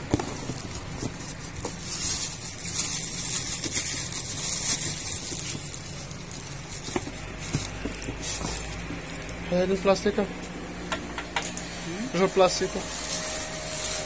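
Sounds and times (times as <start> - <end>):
plastic bag crinkling: 0.0 - 10.5, 12.2 - 14.0.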